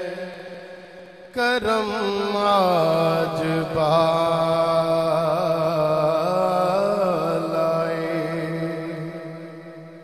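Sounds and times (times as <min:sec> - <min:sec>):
man singing long note: 0:01.3 - 0:09.5.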